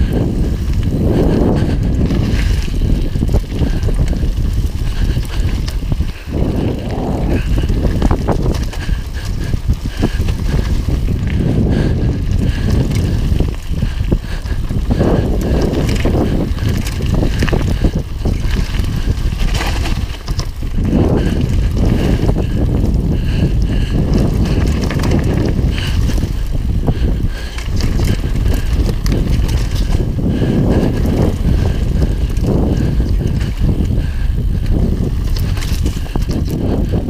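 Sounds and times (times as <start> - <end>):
bike rattling over bumps: 0.0 - 37.0
tyres rumbling over gravel: 0.0 - 37.0
wind rushing over microphone: 0.0 - 37.0.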